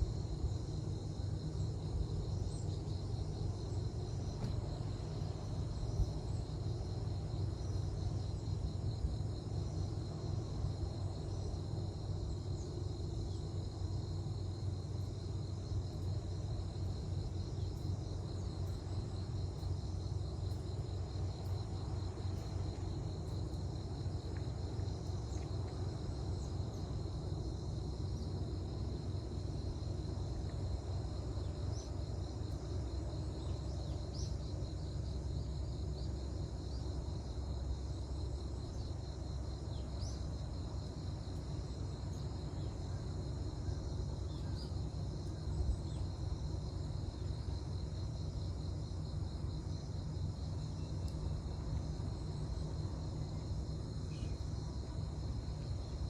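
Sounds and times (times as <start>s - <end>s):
continuous low rumble: 0.0s - 56.0s
insects trilling: 0.0s - 56.0s.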